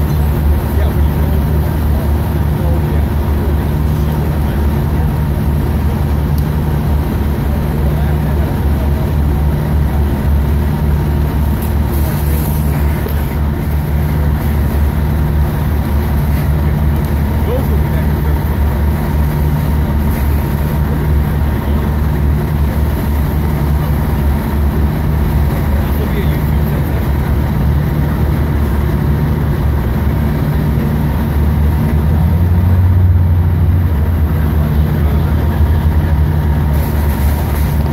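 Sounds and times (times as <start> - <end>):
fire engine running: 0.0 - 37.9.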